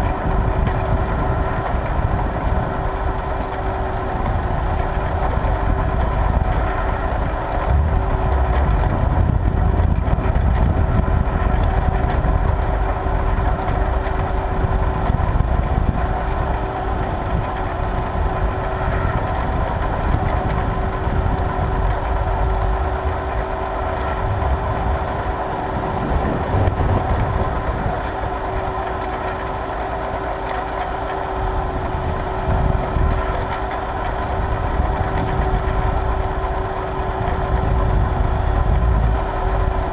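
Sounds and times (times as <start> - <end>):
tractor engine rumbling: 0.0 - 39.9.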